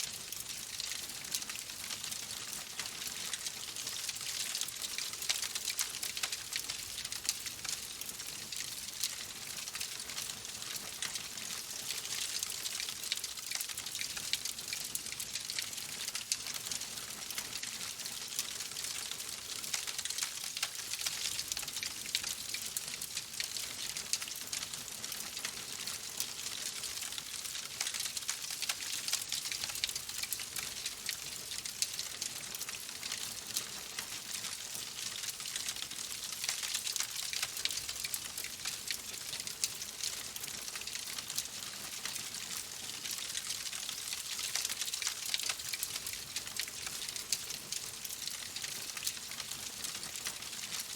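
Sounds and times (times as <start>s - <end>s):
fireplace fire crackling: 0.2s - 50.9s.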